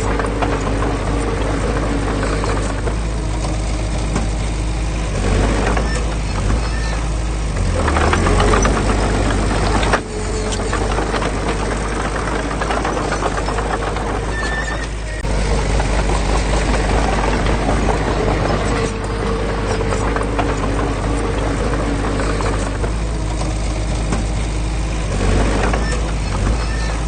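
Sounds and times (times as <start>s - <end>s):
diesel engine running: 0.0s - 27.0s
metallic clatter and rattling: 0.0s - 27.0s.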